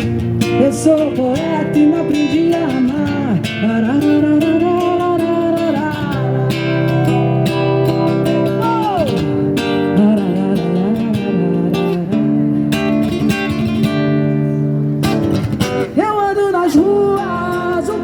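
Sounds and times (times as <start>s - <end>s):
acoustic guitar strumming: 0.0s - 18.0s
woman singing: 0.4s - 13.2s, 16.0s - 18.0s.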